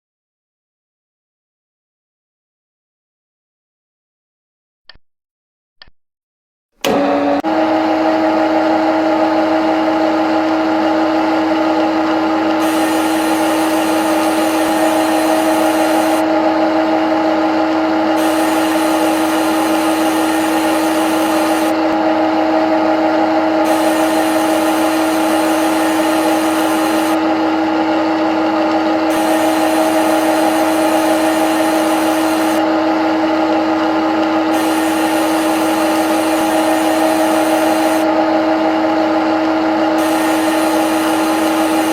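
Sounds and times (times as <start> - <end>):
lathe whine: 6.8 - 41.9.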